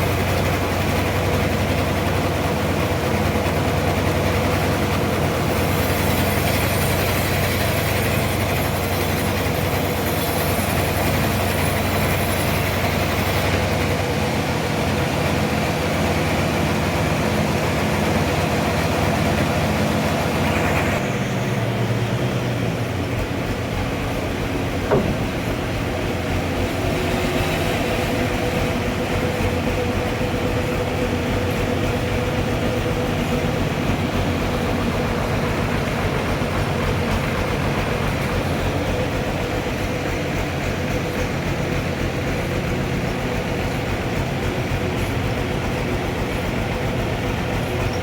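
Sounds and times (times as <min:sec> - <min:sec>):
sawmill machinery drone: 0:00.0 - 0:48.0.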